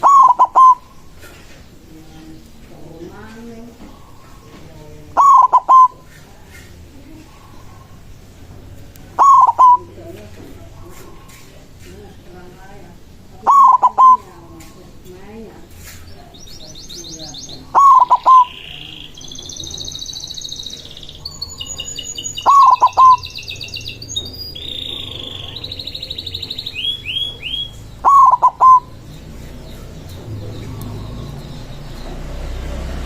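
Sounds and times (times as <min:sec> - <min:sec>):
dove cooing: 0:00.0 - 0:01.6, 0:02.2 - 0:08.1, 0:09.1 - 0:11.7, 0:13.3 - 0:15.4, 0:16.6 - 0:23.6, 0:24.2 - 0:31.8
songbirds chirping and trilling: 0:00.0 - 0:33.0.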